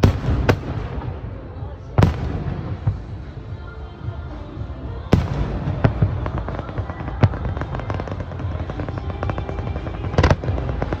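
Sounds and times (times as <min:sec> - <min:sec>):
fireworks bangs: 0:00.0 - 0:03.7, 0:05.1 - 0:11.0.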